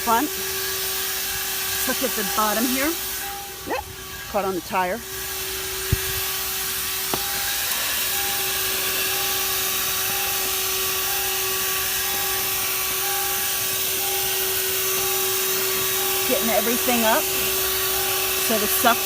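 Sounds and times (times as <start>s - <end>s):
handheld vacuum running: 0.0s - 19.0s.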